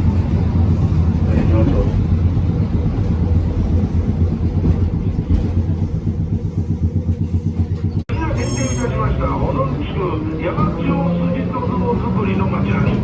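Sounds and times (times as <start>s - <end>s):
streetcar rumbling on track: 0.0s - 13.0s.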